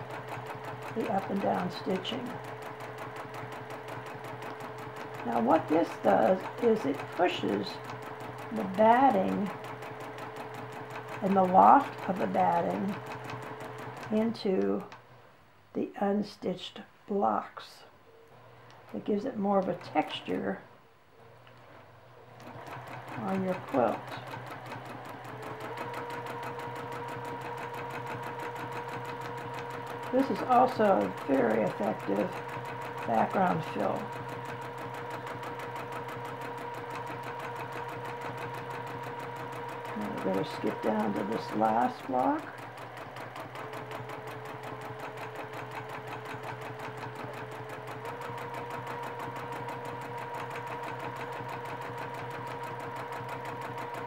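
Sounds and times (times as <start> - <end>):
sewing machine needle stitching: 0.0 - 15.0, 18.8 - 20.5, 21.6 - 54.0.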